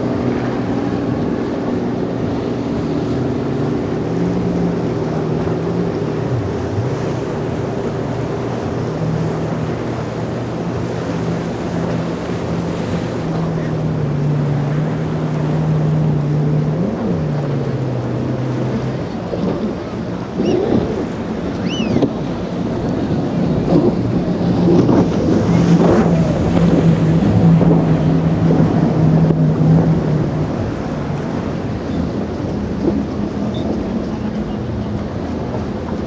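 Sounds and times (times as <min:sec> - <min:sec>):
motorboat engines: 0:00.0 - 0:36.0
waves washing: 0:00.0 - 0:36.0
wind on microphone: 0:00.0 - 0:36.0.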